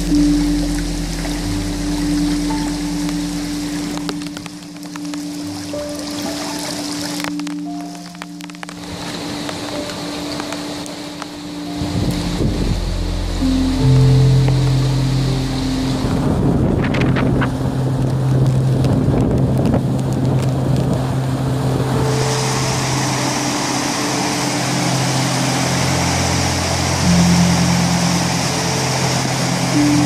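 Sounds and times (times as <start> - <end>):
background music: 0.0 - 30.0
floodwater rushing: 0.0 - 30.0
wind buffeting microphone: 0.0 - 30.0.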